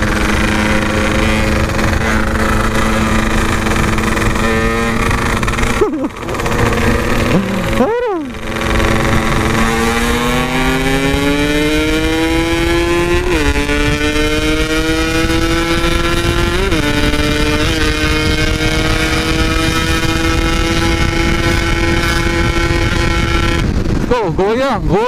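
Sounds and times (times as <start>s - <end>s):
two-stroke engine accelerating: 0.0s - 24.2s.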